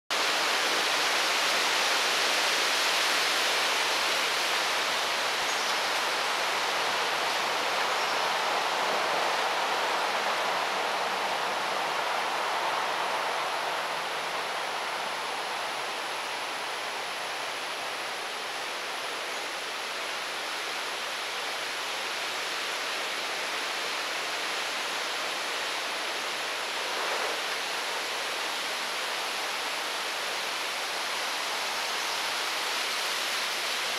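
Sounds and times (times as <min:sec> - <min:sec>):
outdoor background hiss: 0:00.1 - 0:33.9.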